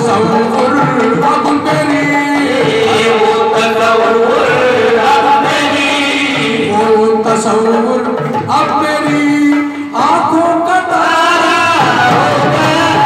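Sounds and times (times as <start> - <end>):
hand-drum beat: 0.0 - 13.0.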